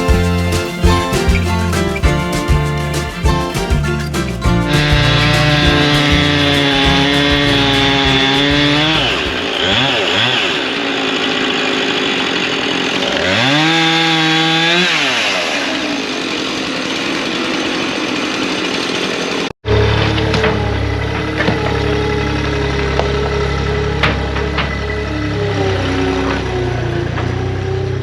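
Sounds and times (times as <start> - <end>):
chainsaw cutting wood: 4.5 - 27.7
chainsaw engine idling: 4.5 - 28.0.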